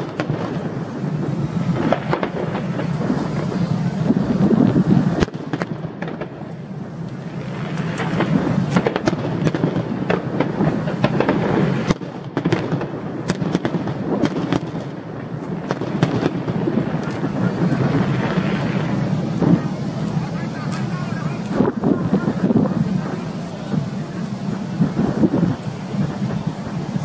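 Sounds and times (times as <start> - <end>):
fireworks cracks and bangs: 0.0 - 27.0
low rumble of launches: 0.0 - 27.0.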